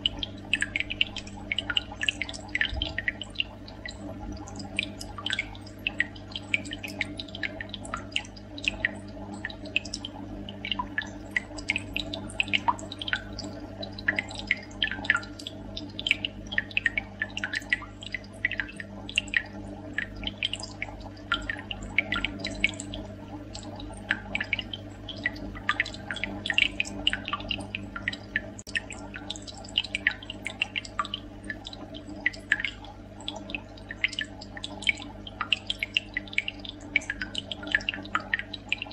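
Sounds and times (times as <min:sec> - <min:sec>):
low steady hum: 0:00.0 - 0:38.9
water dripping and trickling: 0:00.0 - 0:38.9.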